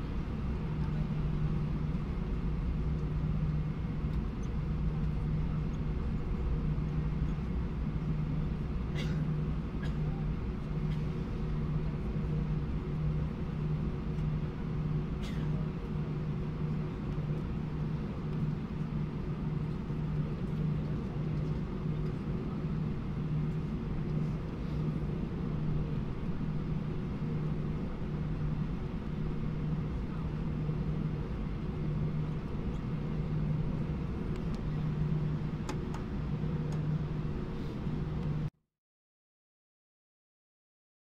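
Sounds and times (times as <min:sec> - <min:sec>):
jet engines idling in cabin: 0:00.0 - 0:38.5.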